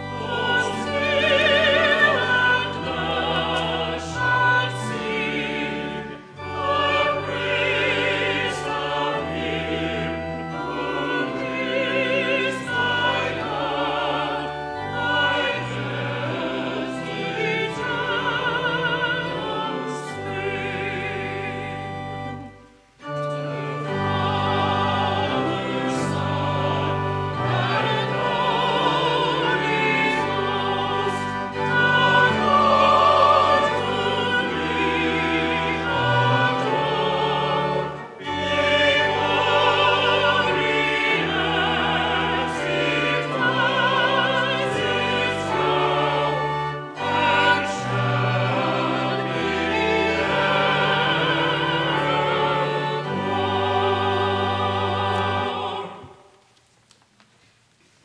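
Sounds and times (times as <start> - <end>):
organ accompaniment: 0.0 - 56.3
voices singing sacred music: 0.0 - 56.4.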